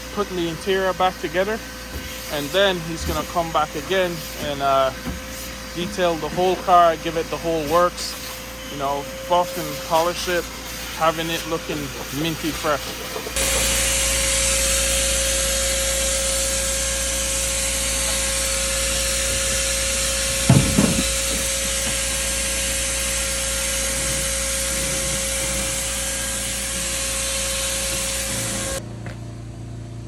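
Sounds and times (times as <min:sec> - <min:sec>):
machine running: 0:00.5 - 0:28.8.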